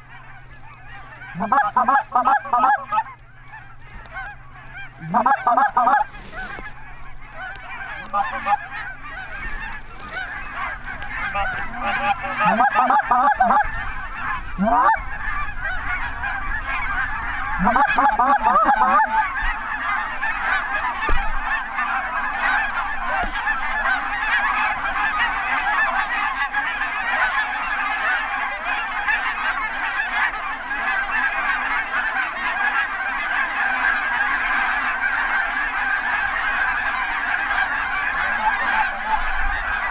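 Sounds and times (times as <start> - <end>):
flock of geese honking: 0.0 - 39.9.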